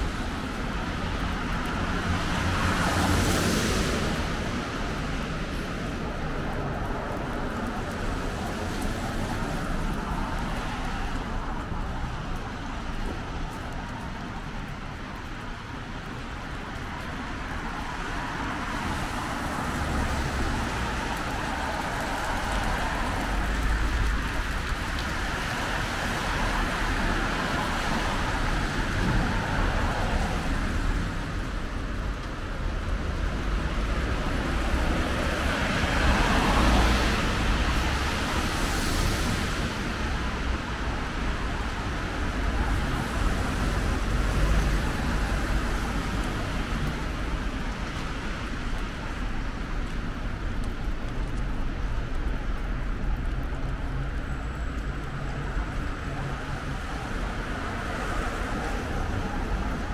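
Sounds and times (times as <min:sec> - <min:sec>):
tyres hissing on wet road: 0:00.0 - 0:59.9.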